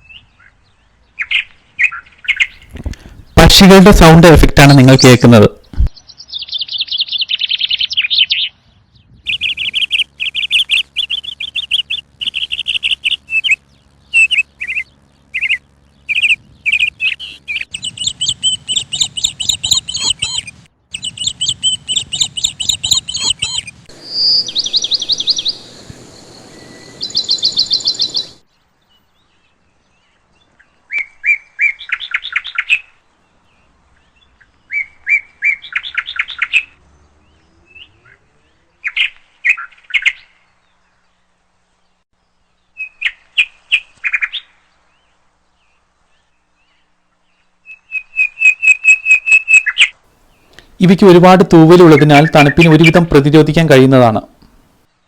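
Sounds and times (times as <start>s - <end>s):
sparrows chirping: 0.0s - 4.1s, 4.7s - 55.0s.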